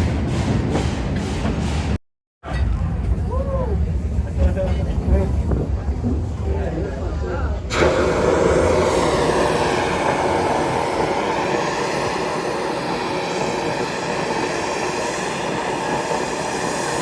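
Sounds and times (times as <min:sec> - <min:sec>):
steam train running: 0:00.0 - 0:17.0.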